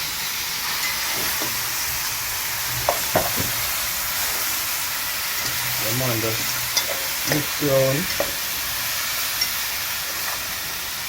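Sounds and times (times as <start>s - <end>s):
chicken frying in oil: 0.0s - 11.0s.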